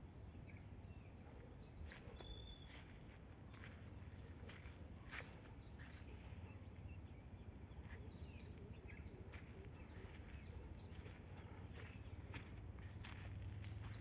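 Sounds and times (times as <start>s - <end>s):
bird chirps: 0.4s - 14.0s
footsteps on dry ground: 1.7s - 7.1s, 7.8s - 14.0s.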